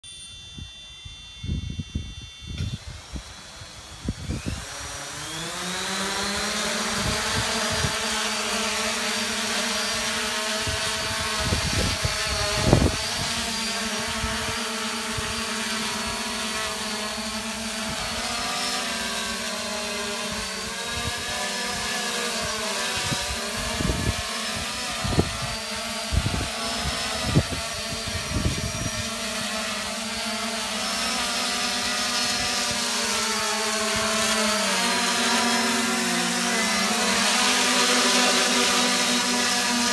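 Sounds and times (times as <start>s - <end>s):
quadcopter motors buzzing: 0.0s - 39.9s.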